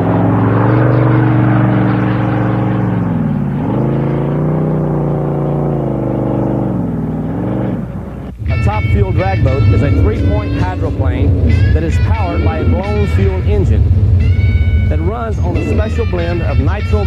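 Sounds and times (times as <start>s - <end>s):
boat engine running at low revs: 0.0s - 17.0s.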